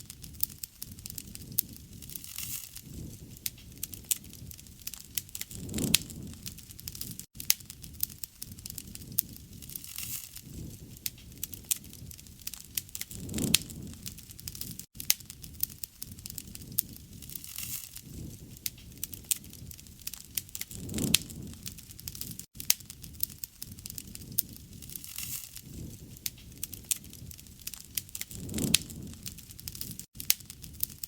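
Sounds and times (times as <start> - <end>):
low rushing flames: 0.0 - 31.0
wood fire crackling: 0.0 - 31.0.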